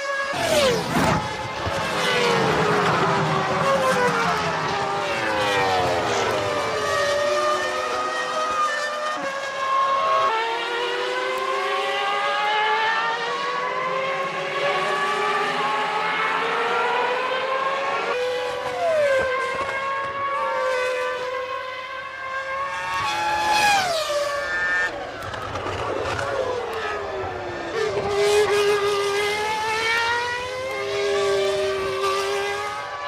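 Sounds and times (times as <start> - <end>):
racing car engines at high revs: 0.0 - 33.0.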